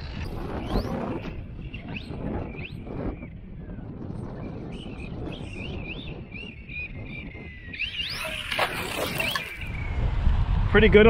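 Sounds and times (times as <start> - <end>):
birds chirping: 0.0 - 9.9.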